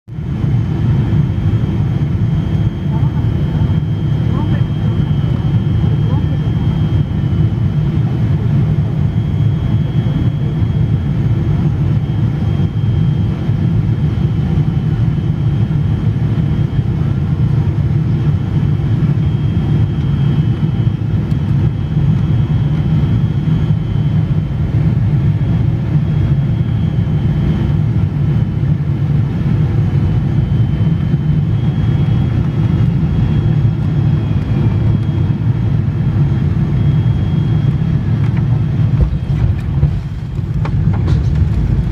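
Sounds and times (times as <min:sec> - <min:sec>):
faint high jet whine: 0:00.1 - 0:41.9
jet engine rumble: 0:00.1 - 0:41.9.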